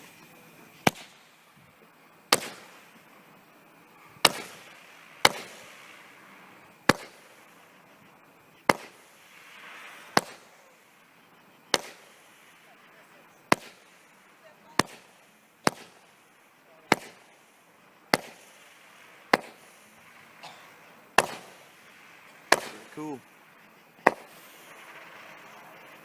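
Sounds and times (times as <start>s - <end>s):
short firework hiss: 0.0s - 3.4s, 4.0s - 26.0s
firework shots firing: 0.7s - 26.0s.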